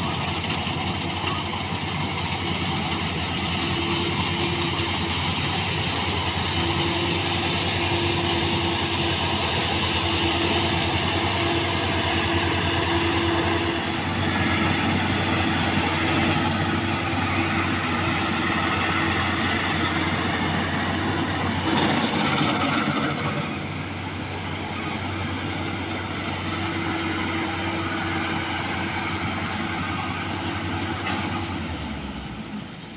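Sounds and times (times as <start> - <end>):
combine harvester running: 0.0 - 32.9.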